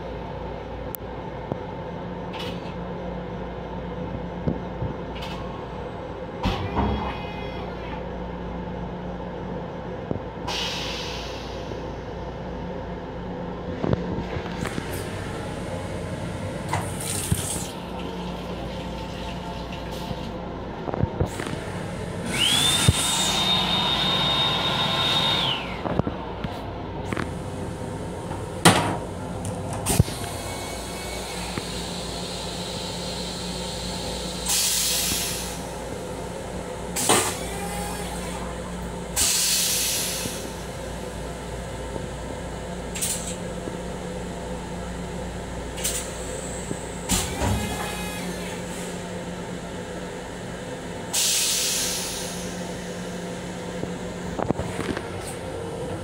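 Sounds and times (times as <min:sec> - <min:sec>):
train car running hum: 0:00.0 - 0:56.0.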